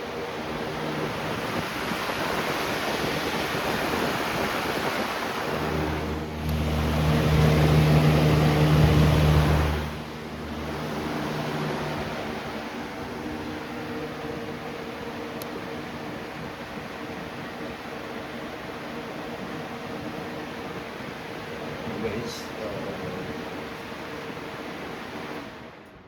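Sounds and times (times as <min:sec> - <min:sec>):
box fan running on high: 0:00.0 - 0:26.0.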